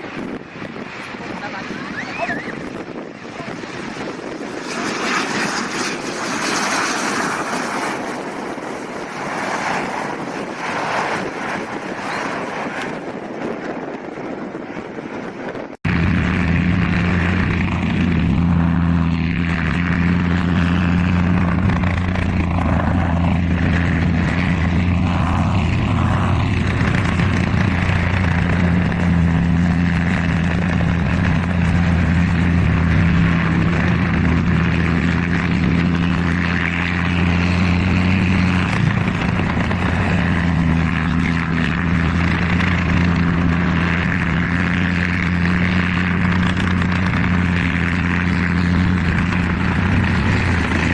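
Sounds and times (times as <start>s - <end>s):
propeller aircraft engine drone: 0.0s - 50.9s.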